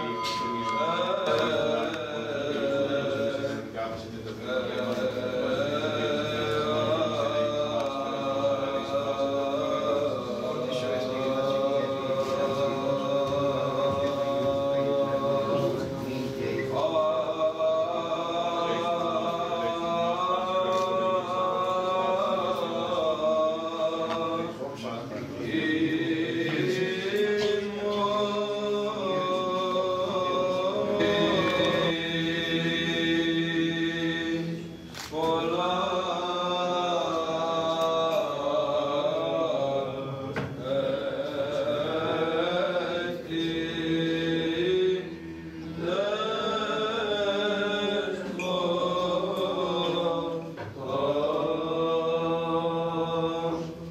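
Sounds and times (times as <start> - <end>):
cantors chanting a hymn: 0.0 - 53.9
held vocal drone: 0.0 - 53.9.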